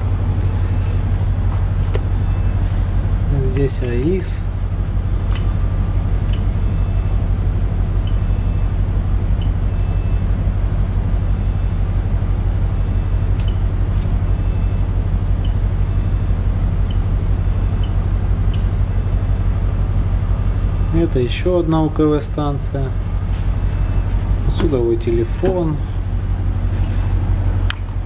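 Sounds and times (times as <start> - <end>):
ship machinery hum: 0.0 - 28.0.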